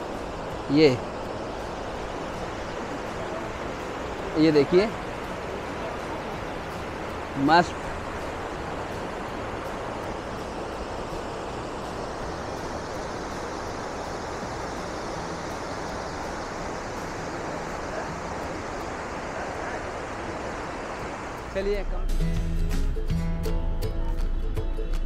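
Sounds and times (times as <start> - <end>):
river rushing over rocks: 0.0 - 21.8.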